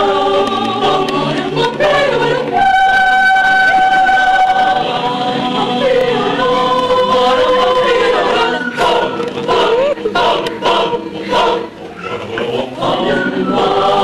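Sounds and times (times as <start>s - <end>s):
girls singing together: 0.0s - 14.0s.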